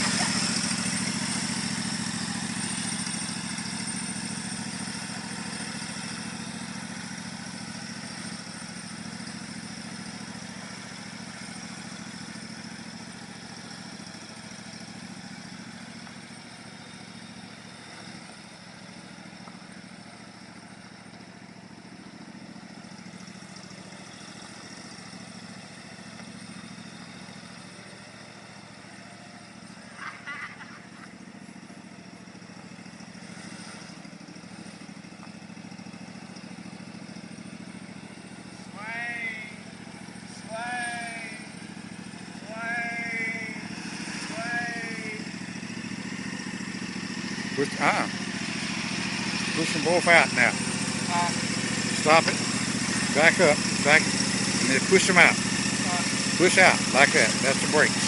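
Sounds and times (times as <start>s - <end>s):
riding lawn mower engine: 0.0s - 58.0s.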